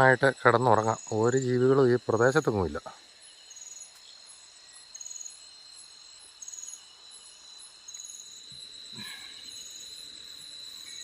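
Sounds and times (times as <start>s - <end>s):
insects droning: 0.0s - 11.0s
insects trilled chirps: 0.0s - 11.0s.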